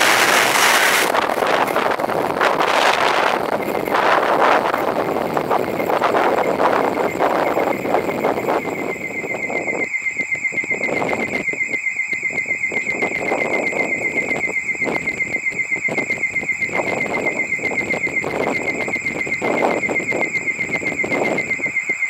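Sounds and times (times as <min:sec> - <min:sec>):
rapid high pulsing beeps: 0:00.0 - 0:22.0.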